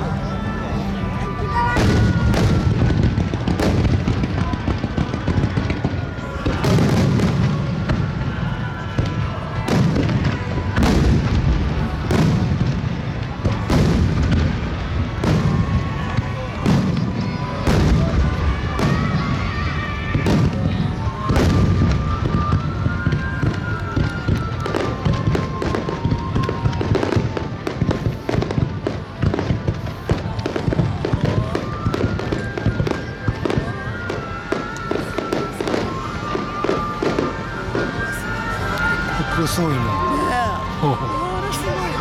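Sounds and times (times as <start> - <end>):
fireworks crackling: 0.0 - 42.0.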